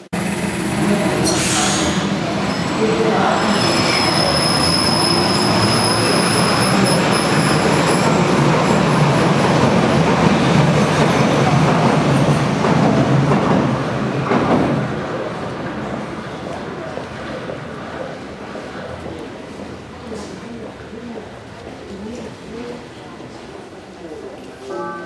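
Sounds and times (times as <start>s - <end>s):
train wheels rumbling on rails: 0.0s - 20.4s.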